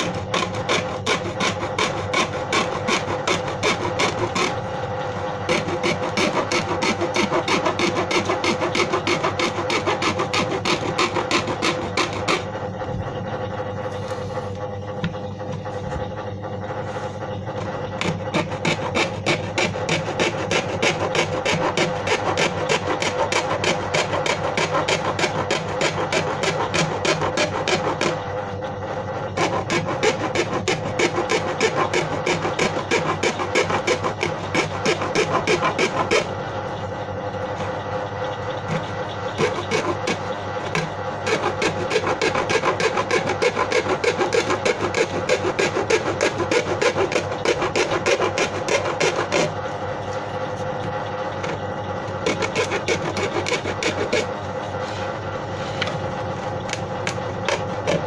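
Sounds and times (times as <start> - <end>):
rasp scraping plastic: 0.0 - 12.6, 17.0 - 28.4, 29.3 - 36.4, 38.6 - 49.7, 50.5 - 58.0.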